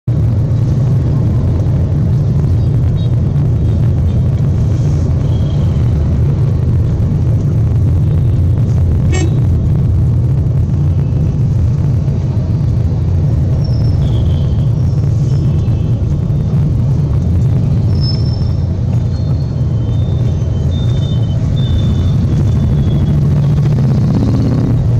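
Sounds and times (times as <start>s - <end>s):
vehicle interior rumble: 0.0s - 24.9s.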